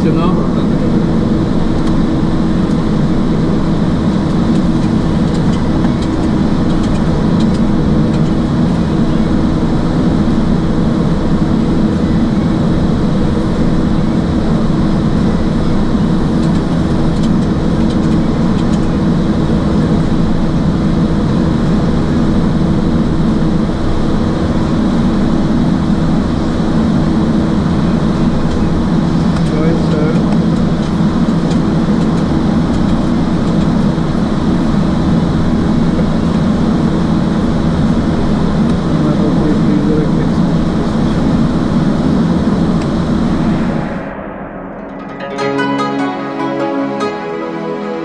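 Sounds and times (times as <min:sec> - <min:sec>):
rushing airflow and air-conditioning: 0:00.0 - 0:45.0
constant low hum: 0:00.0 - 0:45.2.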